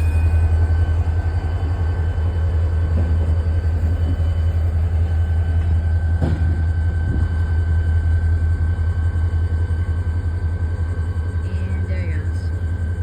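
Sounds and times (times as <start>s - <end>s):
diesel locomotive engine rumbling: 0.0s - 13.0s
thin steady whine: 0.0s - 13.0s.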